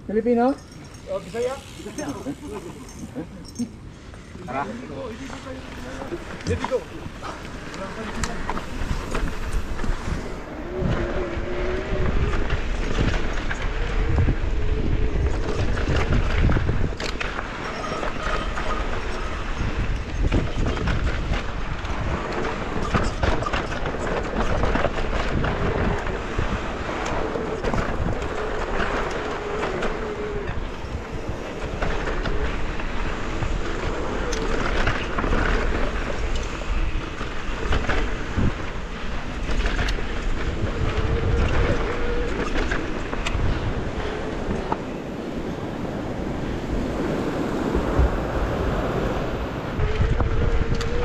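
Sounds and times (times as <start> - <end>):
wind on microphone: 0.0 - 51.0
bike rattling over bumps: 0.1 - 48.9, 49.7 - 51.0
bike tyre noise: 0.3 - 51.0.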